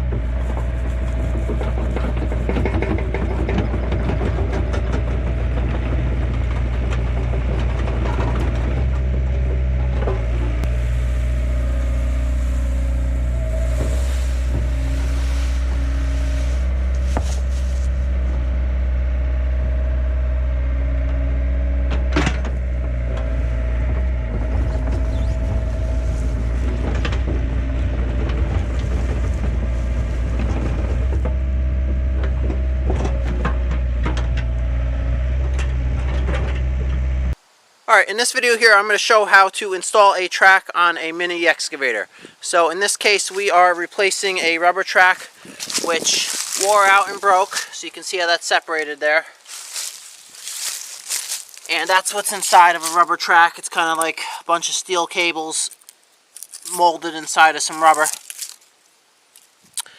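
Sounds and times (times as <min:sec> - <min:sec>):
diesel engine running: 0:00.0 - 0:37.4, 0:43.0 - 0:54.8.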